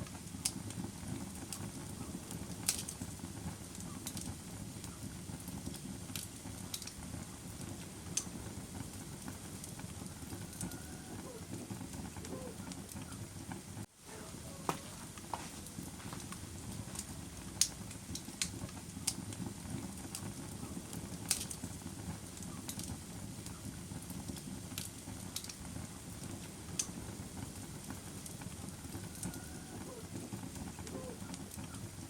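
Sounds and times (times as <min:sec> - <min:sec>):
campfire burning: 0:00.0 - 0:32.0
wood crackling and popping: 0:00.0 - 0:32.0.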